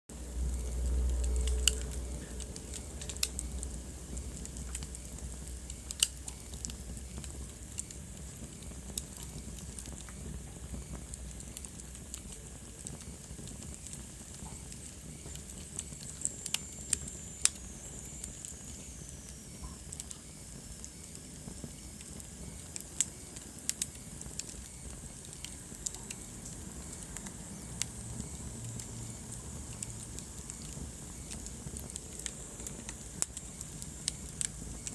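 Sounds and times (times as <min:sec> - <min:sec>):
fire hissing and crackling: 0:00.1 - 0:34.9.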